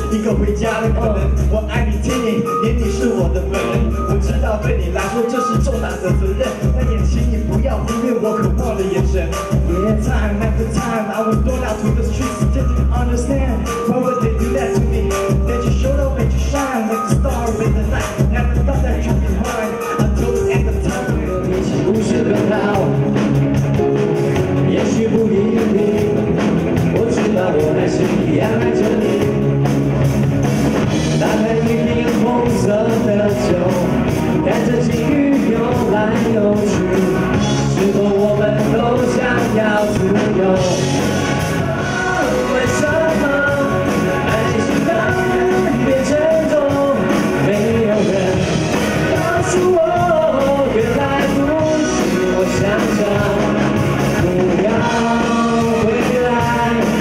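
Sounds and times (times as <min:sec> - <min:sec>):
man and woman singing: 0:00.0 - 0:23.0, 0:24.6 - 0:26.2, 0:26.9 - 0:29.4, 0:31.0 - 0:57.0
live pop-rock band: 0:00.0 - 0:57.0.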